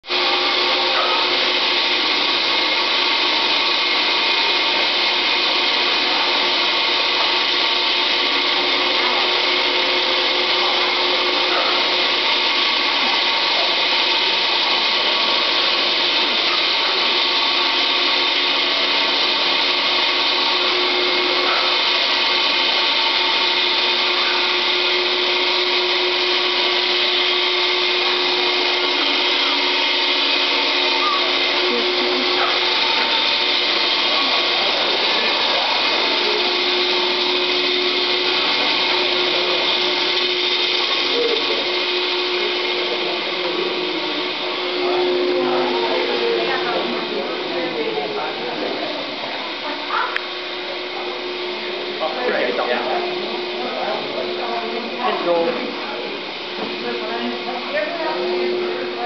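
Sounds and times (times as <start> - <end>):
electric ice-cutting tool running: 0.0 - 59.0.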